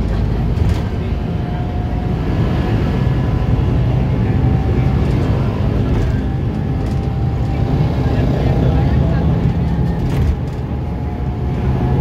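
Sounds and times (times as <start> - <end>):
bus engine and road drone: 0.0 - 12.0.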